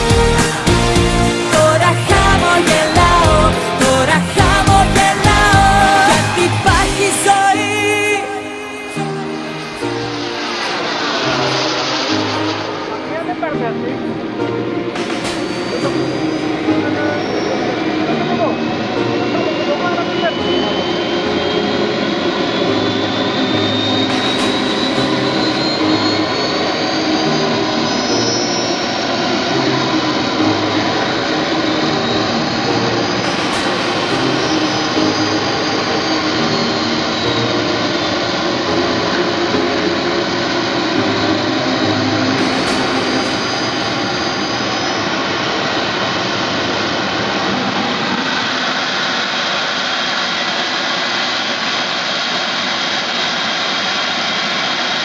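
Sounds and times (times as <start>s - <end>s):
model jet turbine whine: 0.0s - 55.0s.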